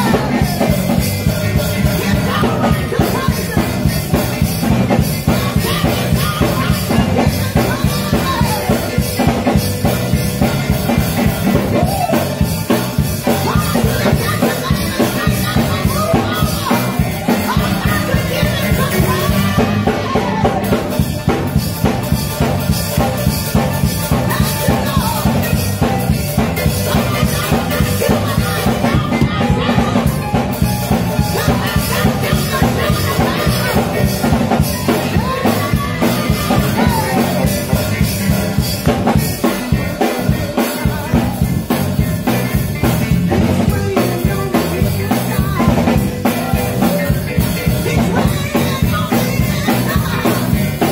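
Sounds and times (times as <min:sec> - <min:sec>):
woman singing into a microphone: 0:00.0 - 0:09.7, 0:12.8 - 0:21.0, 0:24.1 - 0:41.4, 0:43.6 - 0:50.9
drum kit playing a steady beat: 0:00.0 - 0:50.9.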